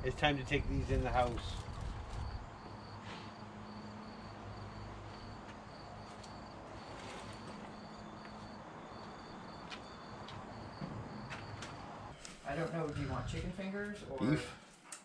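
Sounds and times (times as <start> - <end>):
crickets chirping: 0.0 - 12.2.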